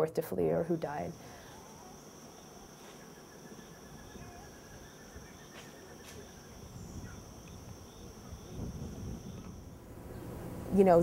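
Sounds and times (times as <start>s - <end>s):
insects high-pitched buzz: 0.3s - 11.0s
insect pulsing trill: 0.6s - 10.1s.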